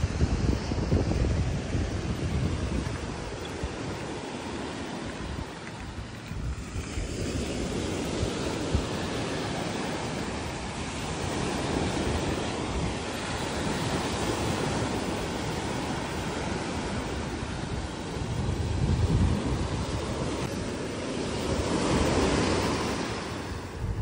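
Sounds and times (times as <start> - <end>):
small surf breaking on a beach: 0.0 - 24.0
wind rumbling on the microphone: 0.0 - 24.0.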